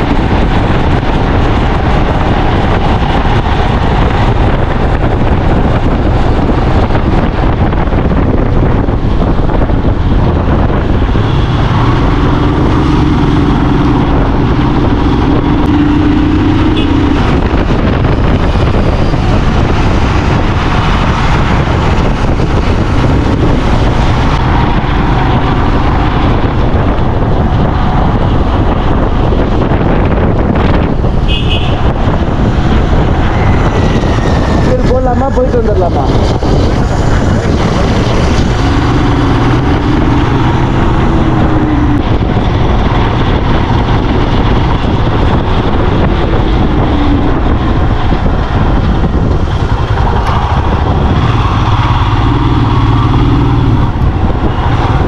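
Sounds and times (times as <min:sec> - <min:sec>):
motorcycle engine: 0:00.0 - 0:55.0
wind noise on microphone: 0:00.0 - 0:55.0.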